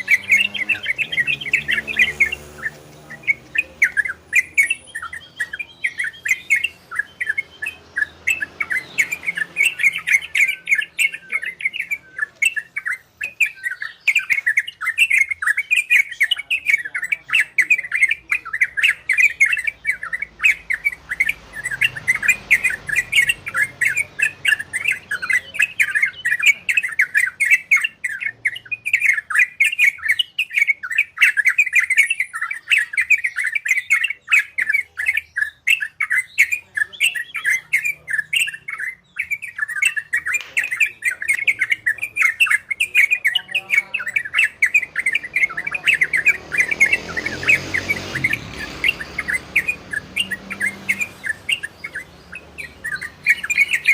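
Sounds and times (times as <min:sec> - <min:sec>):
bird chattering warbling song: 0:00.0 - 0:53.9.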